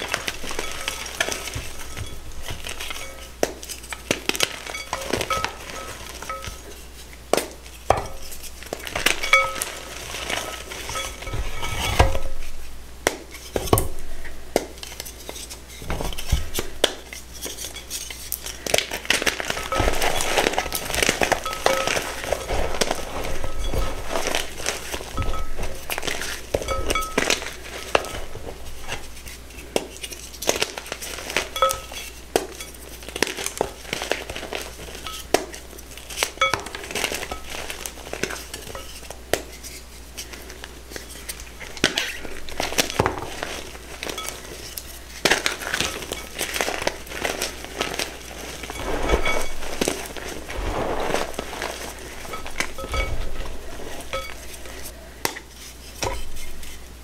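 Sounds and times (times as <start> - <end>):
chalk clinking against bowl: 0.0 - 12.5, 19.4 - 47.5, 51.0 - 56.8
chalk crunching and crackling: 0.0 - 57.0.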